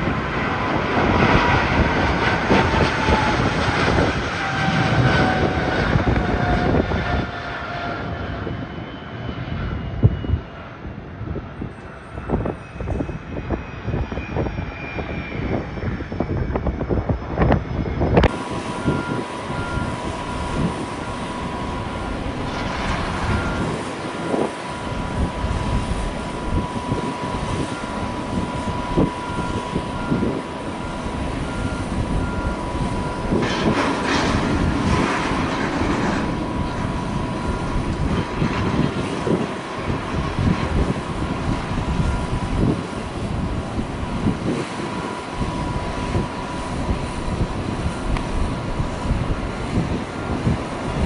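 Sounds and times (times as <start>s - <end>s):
airliner climbing out: 0.0s - 51.0s
jet roar with high whine: 0.0s - 51.0s.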